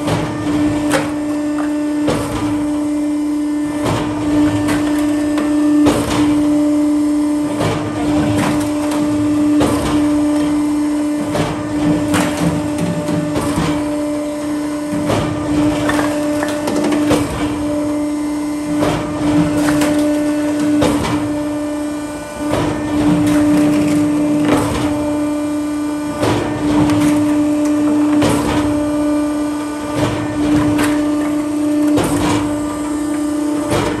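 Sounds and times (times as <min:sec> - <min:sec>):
motor and pump humming: 0:00.0 - 0:34.0.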